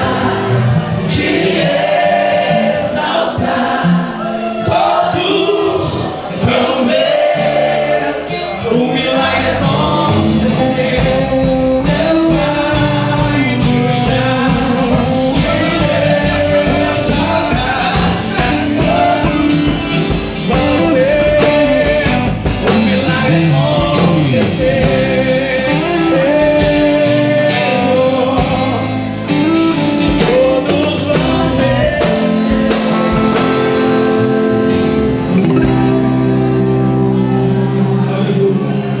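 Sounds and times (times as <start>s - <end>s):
gospel band music: 0.0s - 39.0s
person singing: 0.0s - 39.0s.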